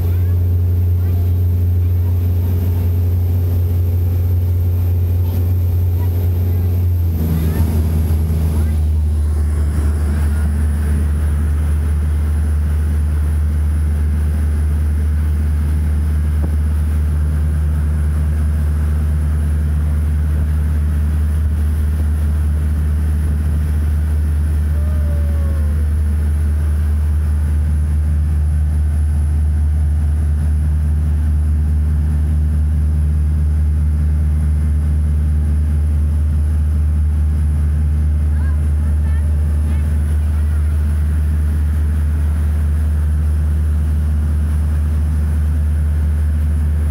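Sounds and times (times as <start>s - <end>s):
boat engine droning: 0.0s - 46.9s
hull moving through water: 0.0s - 46.9s.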